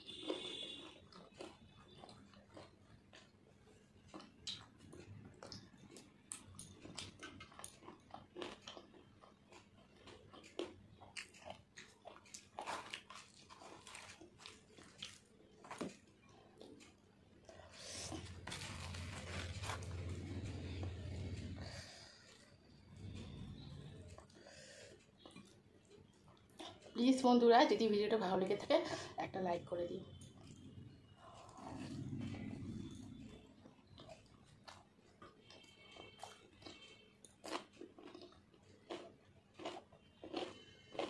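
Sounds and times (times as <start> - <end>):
person chewing: 0.0 - 26.9, 30.2 - 41.0.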